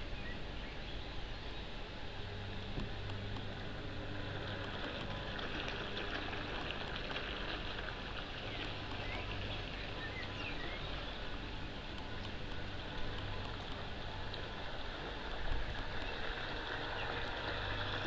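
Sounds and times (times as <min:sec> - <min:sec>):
model boat motor drone: 0:00.0 - 0:18.0.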